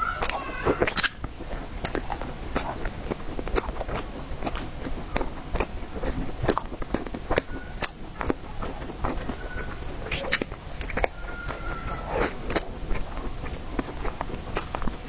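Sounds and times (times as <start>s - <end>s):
wet chewing with sticky clicks: 0.0s - 15.0s.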